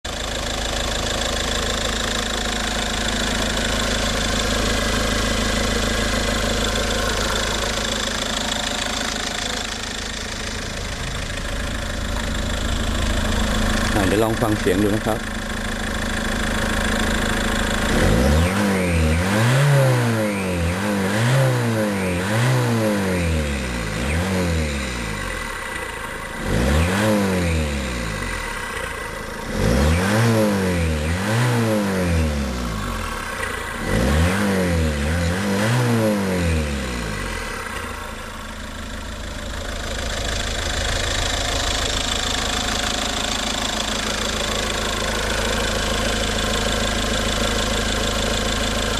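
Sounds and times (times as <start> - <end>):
diesel engine revving: 0.1 - 48.9.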